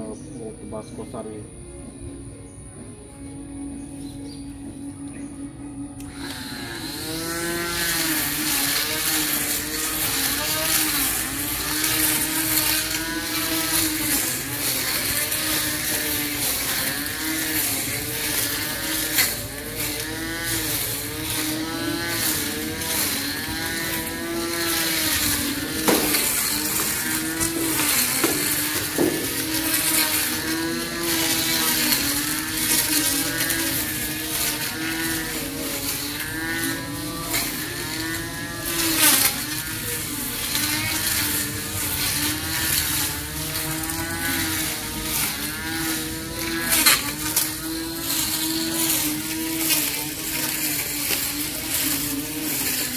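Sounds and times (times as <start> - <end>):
electric grass trimmer whining: 0.0 - 52.9.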